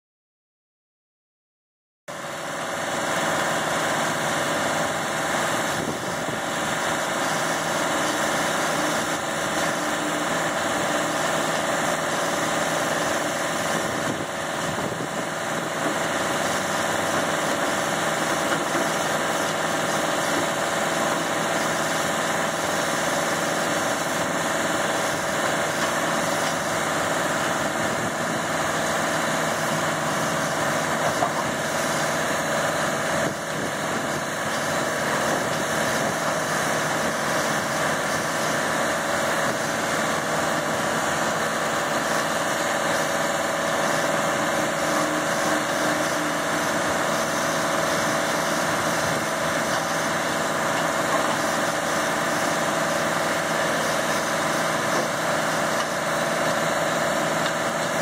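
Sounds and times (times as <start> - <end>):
machinery engines droning: 2.1 - 58.0.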